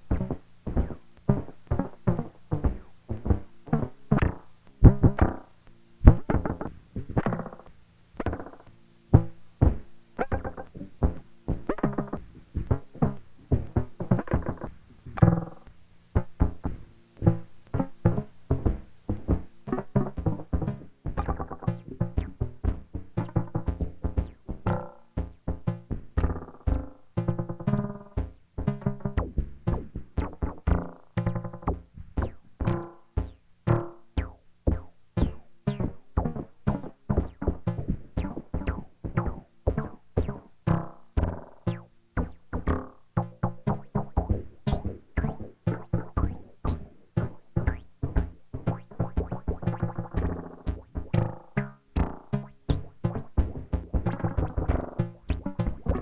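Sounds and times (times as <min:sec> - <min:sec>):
synthesizer plucked note sequence: 0:00.0 - 0:56.0.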